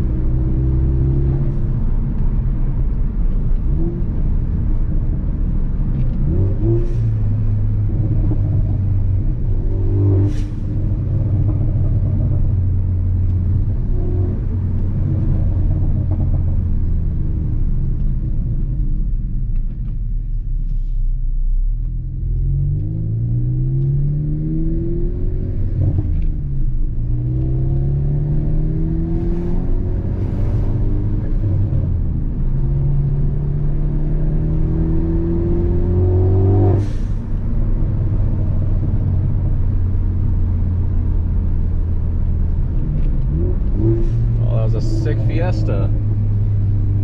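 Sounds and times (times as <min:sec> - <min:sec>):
car engine pulling through gears: 0:00.0 - 0:47.0.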